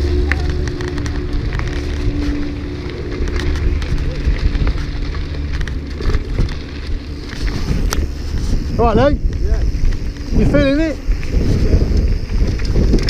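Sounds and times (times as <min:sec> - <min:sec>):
bike clicks and rattles: 0:00.0 - 0:13.0
tyres crackling over gravel: 0:00.0 - 0:13.0
wind rumble on microphone: 0:00.0 - 0:13.0.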